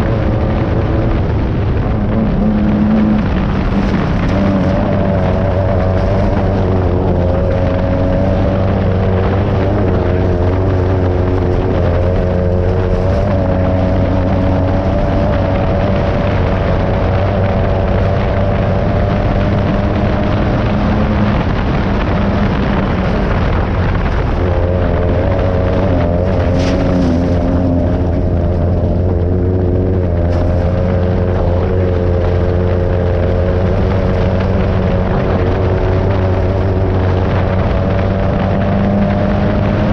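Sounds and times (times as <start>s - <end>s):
buggy engine running hard: 0.0s - 39.9s
rushing noise of moving car: 0.0s - 39.9s.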